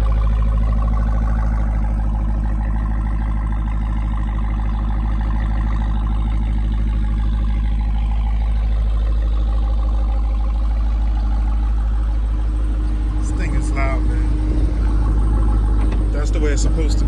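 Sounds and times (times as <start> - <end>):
car engine idling with deep rumble: 0.0 - 17.0.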